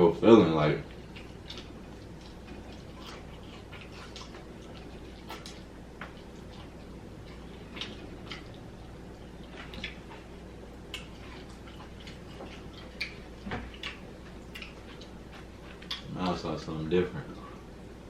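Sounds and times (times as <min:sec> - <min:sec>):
faint steady hum: 0:00.0 - 0:18.0
person chewing with mouth clicks: 0:00.9 - 0:16.2.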